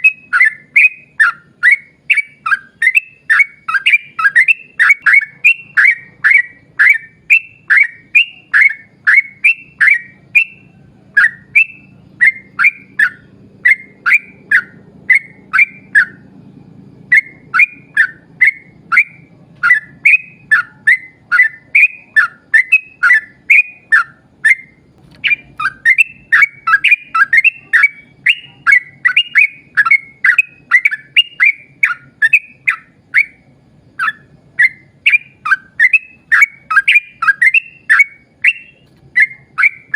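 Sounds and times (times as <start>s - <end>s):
bulbul singing whistled notes: 0.0s - 39.9s.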